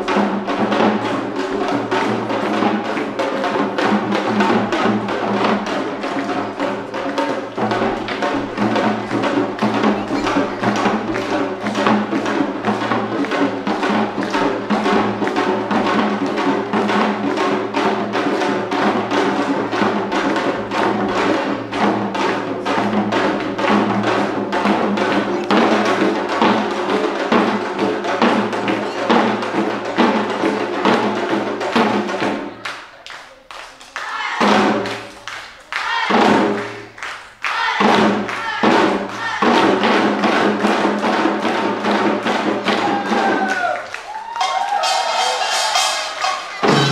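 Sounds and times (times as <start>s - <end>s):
barrel drums beating fast: 0.0s - 32.7s, 34.0s - 46.9s.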